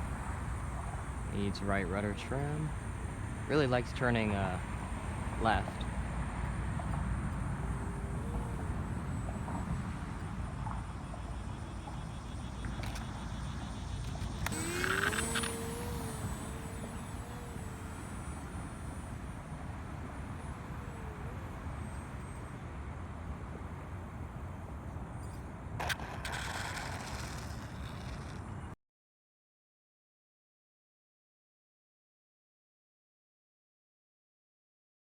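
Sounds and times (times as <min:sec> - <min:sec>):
model plane motor whining: 0:00.0 - 0:28.8.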